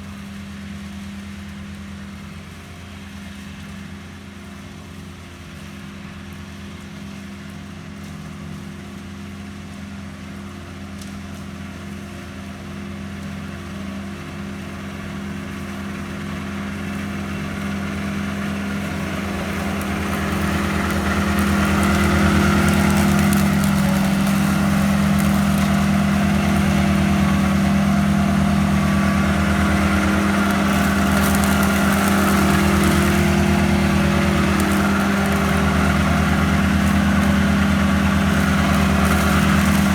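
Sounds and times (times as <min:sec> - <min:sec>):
ride-on lawn mower engine running: 0:00.0 - 0:39.9.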